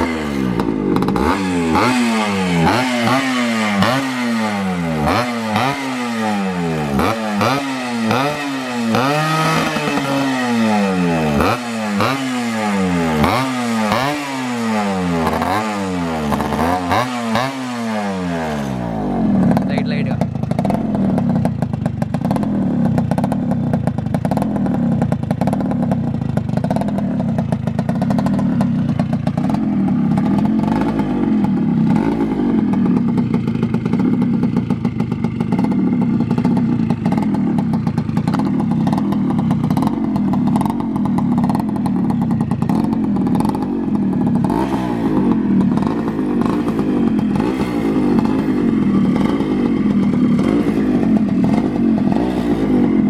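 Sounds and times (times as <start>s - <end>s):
two-stroke motorcycle revving: 0.0s - 53.0s.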